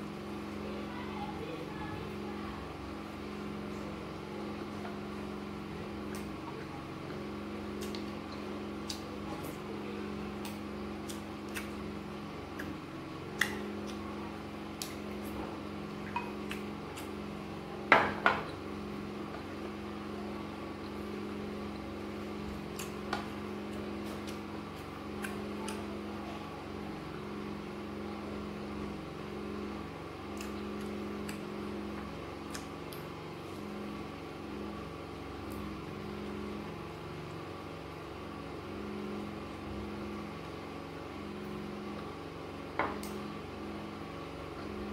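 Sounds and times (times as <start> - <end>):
steady machine hum: 0.0 - 44.9.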